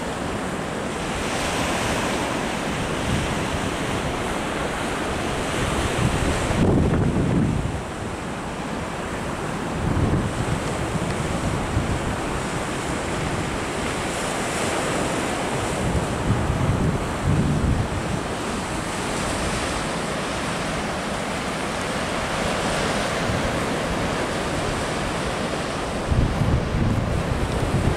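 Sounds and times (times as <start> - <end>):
surf and choppy sea washing: 0.0 - 27.9
wind gusting across microphone: 0.0 - 27.9.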